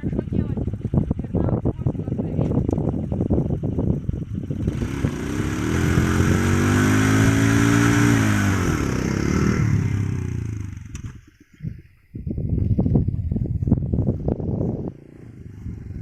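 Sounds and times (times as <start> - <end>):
motorcycle engine revving: 0.0 - 11.3, 13.9 - 16.0
wind buffeting microphone: 0.0 - 16.0.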